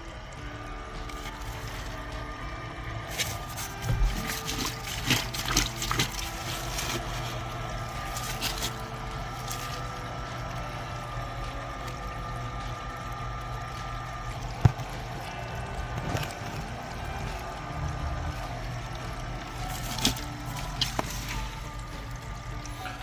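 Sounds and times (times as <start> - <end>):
steady hum: 0.0 - 23.0
water trickling from a pipe: 0.0 - 23.0.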